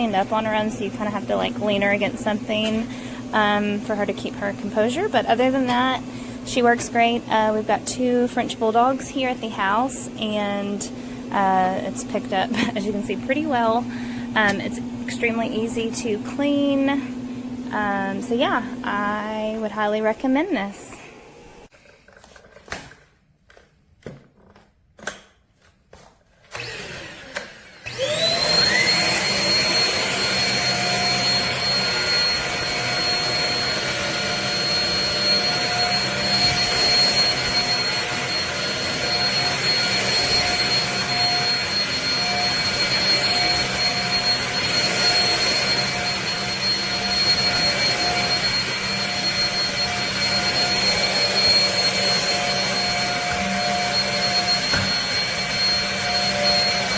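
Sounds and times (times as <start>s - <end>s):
vacuum motor whining: 0.0s - 21.7s, 26.5s - 56.9s.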